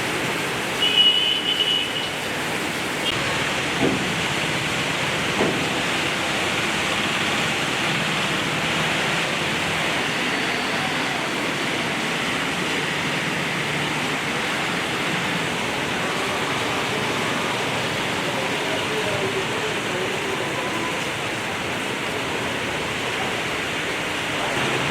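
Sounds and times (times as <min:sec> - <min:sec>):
torrential rain: 0:00.0 - 0:24.9.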